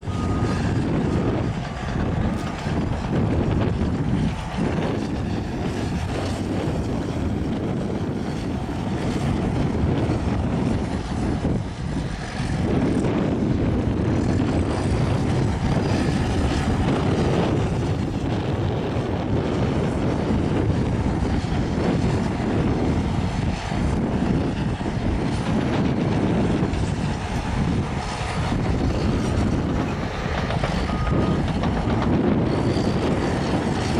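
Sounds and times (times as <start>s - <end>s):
bulldozer diesel engine running: 0.0s - 33.9s.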